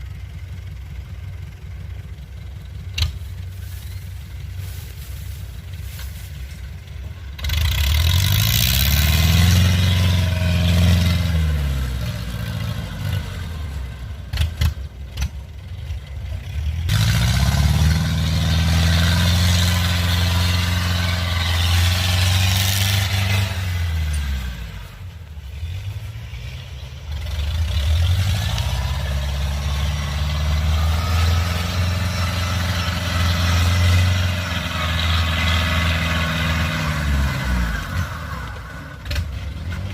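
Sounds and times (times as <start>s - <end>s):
combine harvester engine revving: 0.0s - 39.9s.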